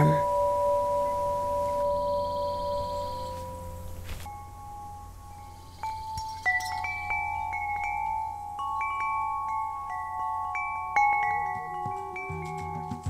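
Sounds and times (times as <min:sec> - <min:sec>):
ringing chimes music: 0:00.0 - 0:13.0.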